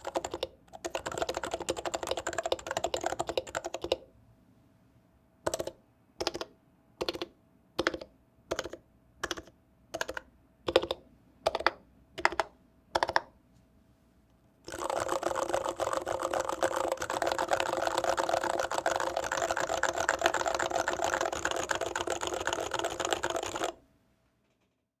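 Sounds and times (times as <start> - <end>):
mechanical keyboard typing: 0.0 - 4.0, 5.5 - 13.3, 14.7 - 23.8.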